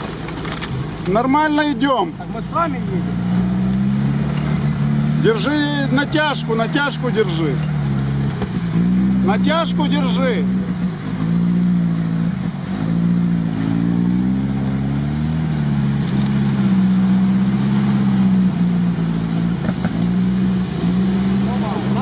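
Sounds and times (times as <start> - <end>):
off-road engine running under load: 0.0 - 22.0.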